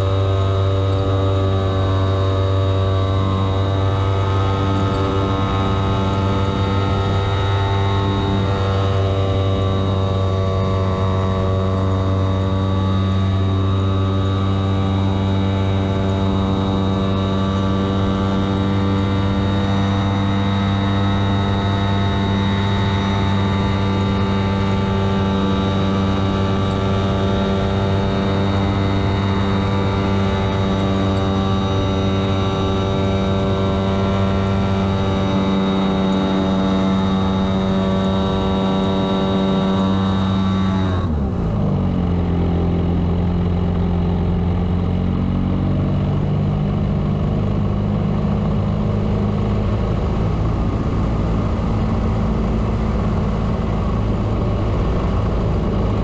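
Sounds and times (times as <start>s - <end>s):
model plane engine and propeller: 0.0s - 56.0s.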